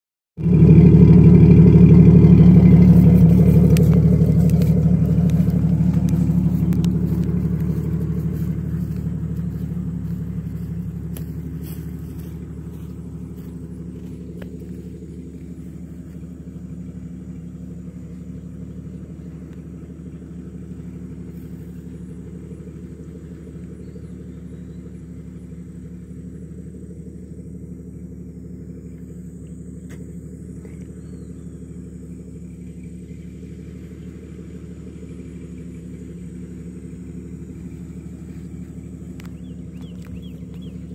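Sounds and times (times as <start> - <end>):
car engine idling: 0.4 - 40.9.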